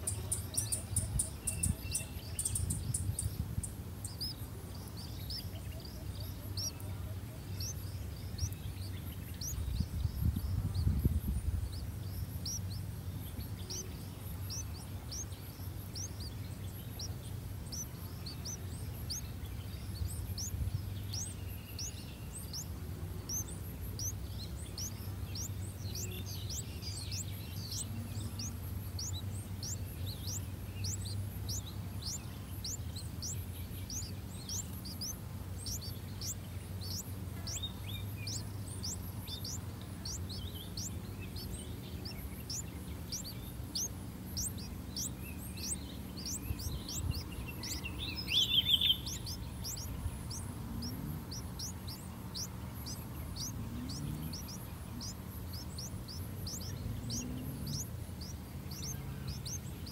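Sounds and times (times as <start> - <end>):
nestlings chirping: 0.0 - 59.9
steady low hum: 0.0 - 59.9.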